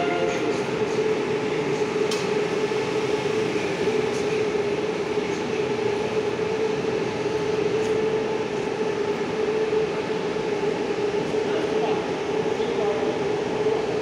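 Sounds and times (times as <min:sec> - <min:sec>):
metro train rolling: 0:00.0 - 0:14.0.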